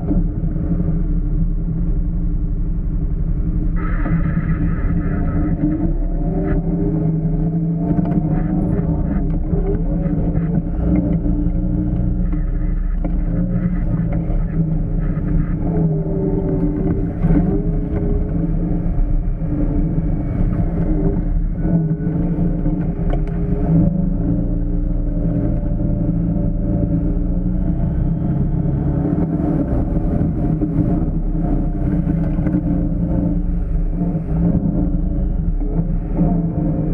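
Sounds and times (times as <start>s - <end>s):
off-road vehicle engine revving: 3.7s - 36.9s.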